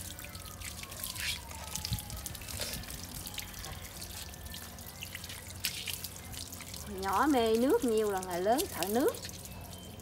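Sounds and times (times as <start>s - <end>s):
tap water splashing: 0.0s - 9.5s
water dripping: 0.0s - 10.0s.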